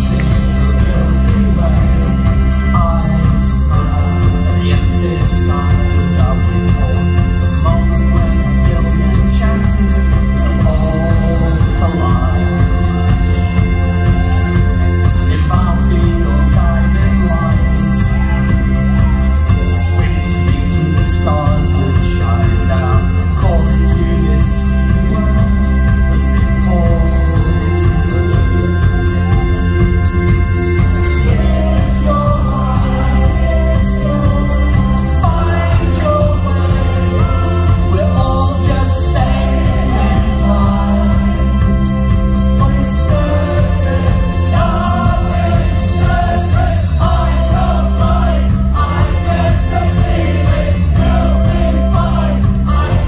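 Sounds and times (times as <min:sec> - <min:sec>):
live pop band playing: 0:00.0 - 0:53.0
person singing: 0:00.0 - 0:53.0.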